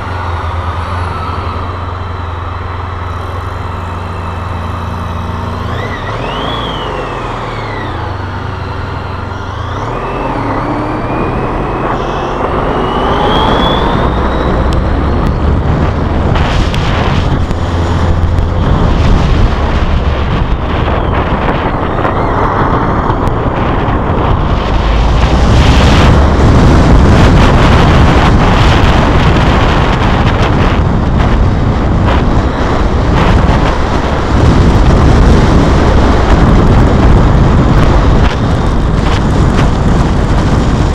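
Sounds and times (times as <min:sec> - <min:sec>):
motorcycle engine whining: 0:00.0 - 0:40.9
wind rushing over microphone: 0:00.0 - 0:40.9.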